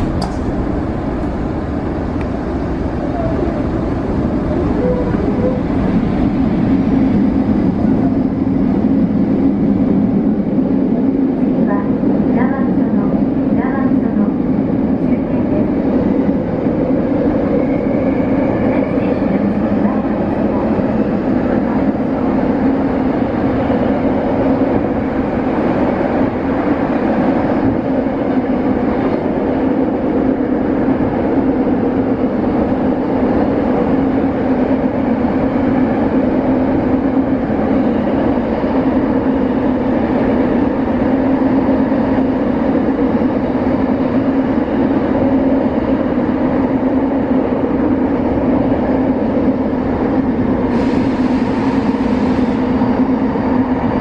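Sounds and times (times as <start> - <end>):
electric train rumbling in tunnel: 0.0 - 54.0.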